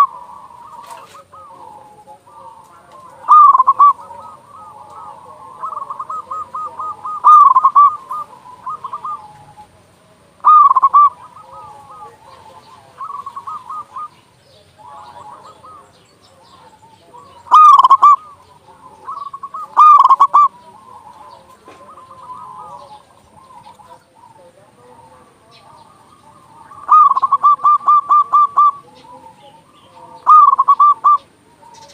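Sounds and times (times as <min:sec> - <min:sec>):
doves cooing: 0:00.0 - 0:31.9.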